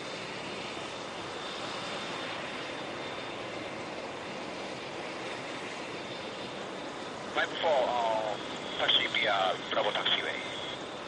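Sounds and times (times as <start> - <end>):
helicopter turbine engines running: 0.0 - 11.0
high turbine whine: 0.0 - 11.0.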